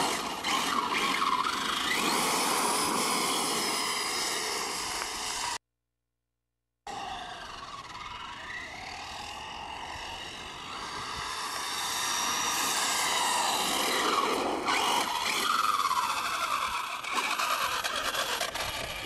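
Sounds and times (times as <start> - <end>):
electric motor whine: 0.0 - 5.6, 6.9 - 19.0.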